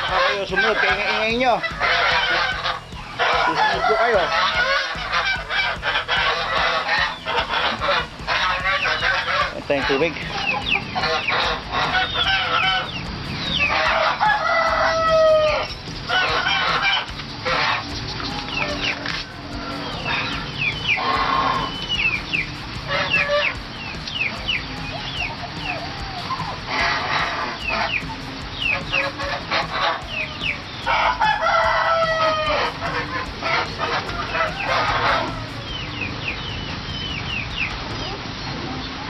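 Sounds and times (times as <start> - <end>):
poultry clucking and crowing: 0.0 - 39.0.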